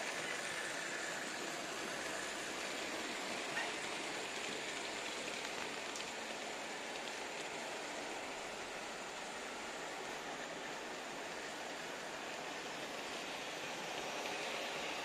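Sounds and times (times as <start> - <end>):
model train whirring on track: 0.0 - 15.0.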